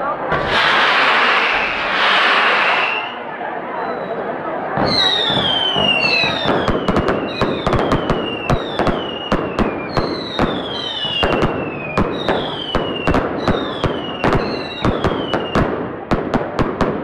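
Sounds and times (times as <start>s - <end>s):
fireworks cracks and pops: 0.3s - 3.2s, 4.8s - 17.0s
fireworks whistling shells: 0.3s - 4.2s, 4.8s - 15.7s.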